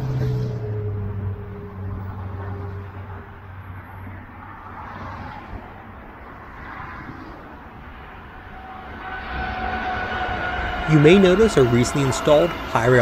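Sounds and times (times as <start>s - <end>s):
passing vehicles rushing: 0.0s - 13.0s.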